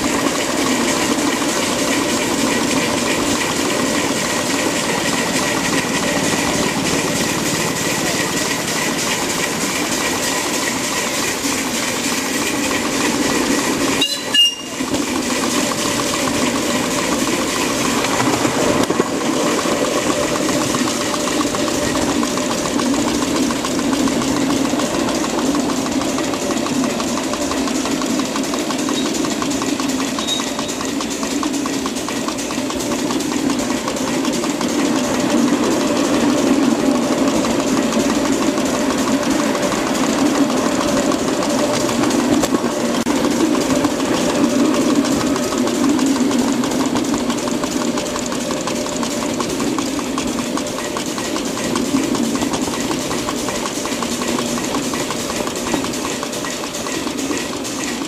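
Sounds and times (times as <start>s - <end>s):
steam exhaust rushing: 0.0s - 58.0s
wheels clattering on rails: 0.0s - 58.0s.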